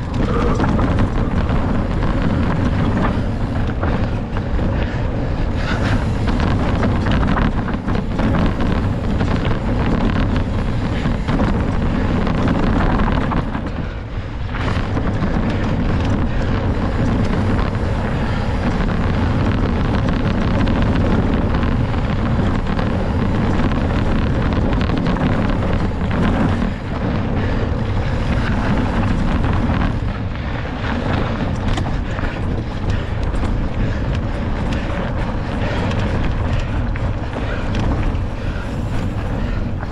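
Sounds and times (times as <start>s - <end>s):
bike rattling clicks: 0.0s - 39.9s
wind buffeting microphone: 0.0s - 39.9s.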